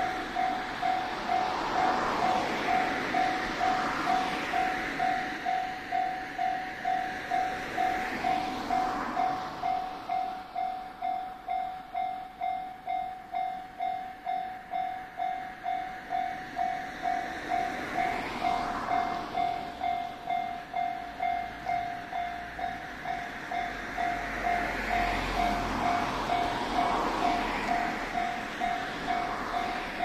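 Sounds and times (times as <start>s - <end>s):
approaching train rumble: 0.0s - 30.0s
level crossing warning bell: 0.0s - 30.0s.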